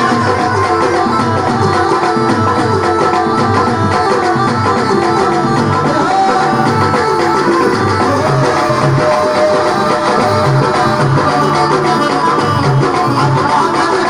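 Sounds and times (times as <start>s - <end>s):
hand drums: 0.0s - 14.0s
melodic instrumental line: 0.0s - 14.0s.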